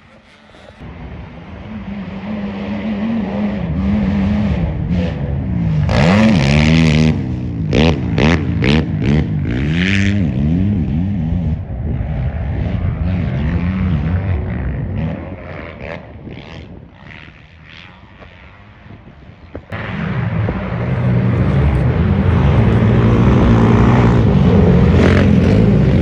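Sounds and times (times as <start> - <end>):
motocross engines revving: 0.0 - 26.0.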